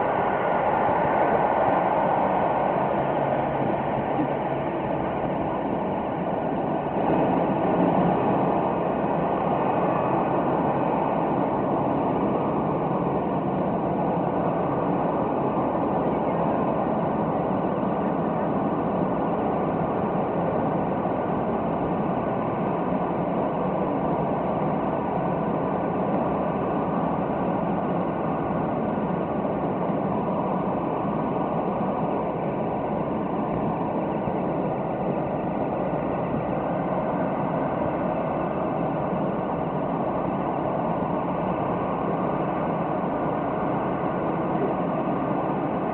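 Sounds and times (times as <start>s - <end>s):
jet turbine rushing with whine: 0.0s - 45.9s.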